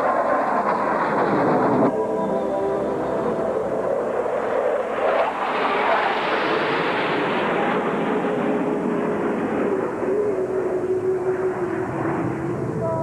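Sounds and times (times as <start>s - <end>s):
faint jet whine: 0.0s - 13.0s
jet engines roaring overhead: 0.0s - 13.0s.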